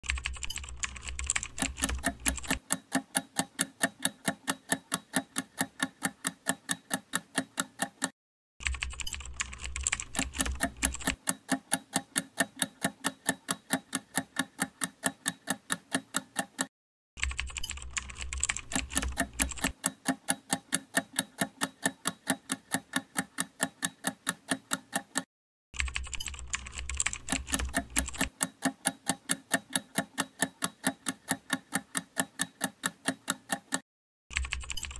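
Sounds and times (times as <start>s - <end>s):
clock-like timer ticking: 0.1s - 25.3s, 26.0s - 33.8s.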